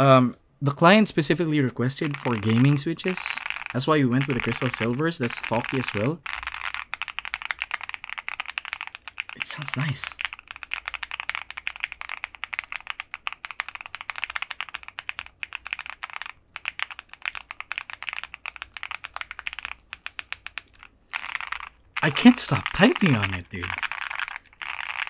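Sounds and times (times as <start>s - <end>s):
fast typing on mechanical keyboard: 1.8s - 25.0s.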